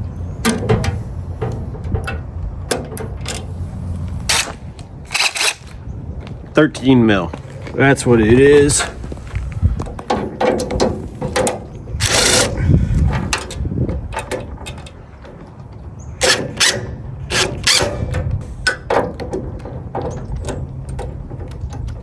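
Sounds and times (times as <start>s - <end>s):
metal parts clanking: 0.0s - 6.0s, 6.8s - 22.0s.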